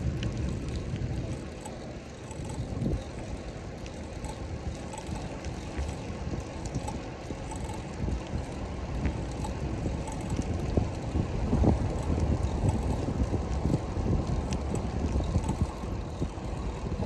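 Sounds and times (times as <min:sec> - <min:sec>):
street traffic rumble: 0:00.0 - 0:17.0
wind on microphone: 0:00.0 - 0:17.0.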